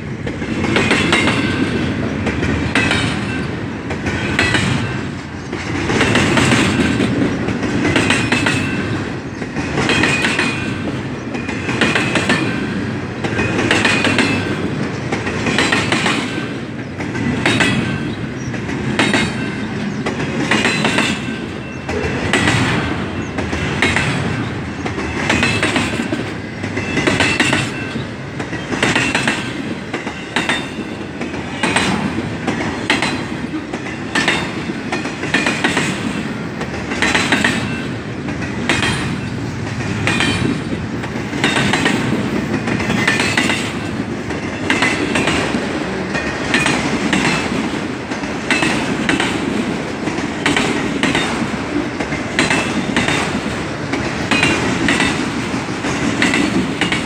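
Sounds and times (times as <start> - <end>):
freight train rumble: 0.0 - 57.0
wheels clattering over rail joints: 0.2 - 57.0.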